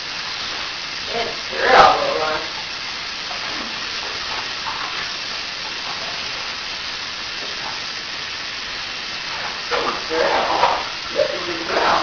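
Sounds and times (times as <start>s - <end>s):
water running in a bathtub: 0.0s - 12.0s.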